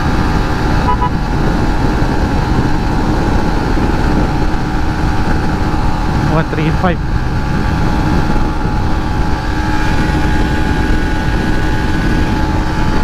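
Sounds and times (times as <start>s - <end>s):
motorcycle engine at full throttle: 0.0s - 13.0s
wind rush over microphone: 0.0s - 13.0s.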